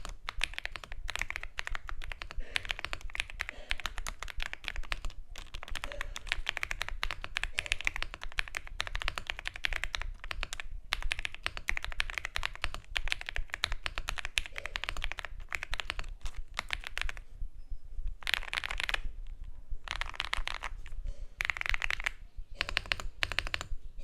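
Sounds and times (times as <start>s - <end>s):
mechanical keyboard typing: 0.0s - 17.2s, 18.2s - 19.1s, 19.8s - 23.7s.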